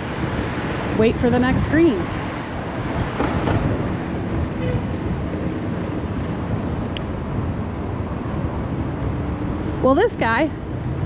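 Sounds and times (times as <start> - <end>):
scooter wheels rumbling on pavement: 0.0 - 11.0.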